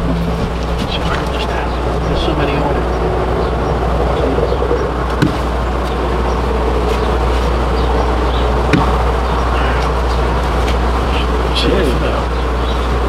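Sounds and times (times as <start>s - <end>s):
honeybees buzzing: 0.0s - 13.0s
low hum: 0.0s - 13.0s.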